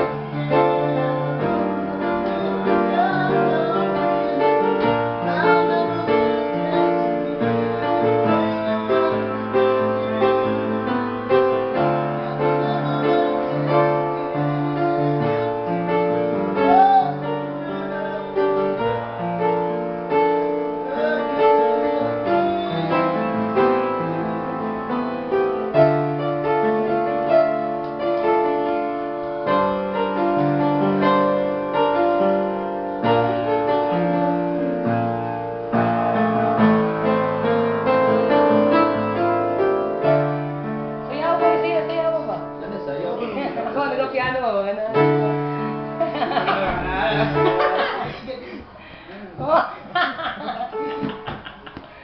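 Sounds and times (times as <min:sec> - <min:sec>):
piano chords: 0:00.0 - 0:52.0.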